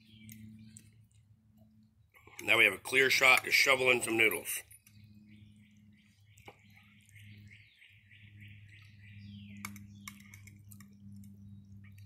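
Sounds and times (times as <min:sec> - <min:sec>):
birds chirping: 0:00.0 - 0:12.0
low steady hum: 0:00.0 - 0:12.0.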